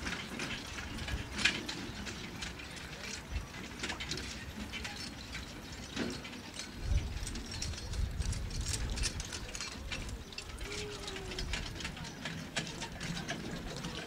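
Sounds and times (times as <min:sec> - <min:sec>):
carriage harness rattling and clicking: 0:00.0 - 0:14.0.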